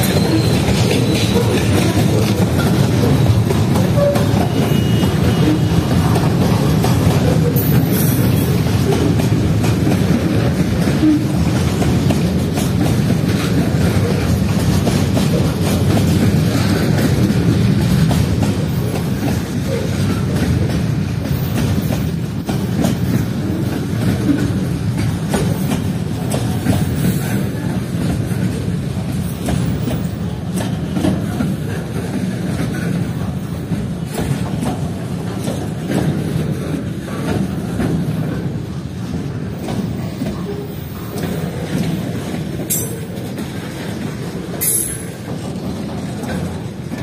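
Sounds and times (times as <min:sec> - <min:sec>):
freight train rumbling past: 0:00.0 - 0:47.0
train wheels knocking and clanking: 0:00.0 - 0:47.0.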